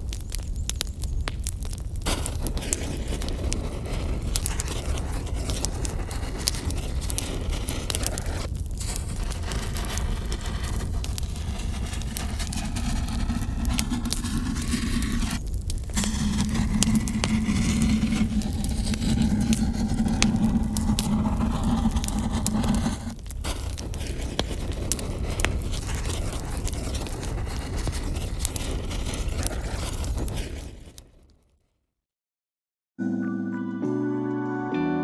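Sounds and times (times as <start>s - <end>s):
branches burning in fireplace: 0.0s - 31.0s
fire crackling and popping: 0.0s - 31.3s.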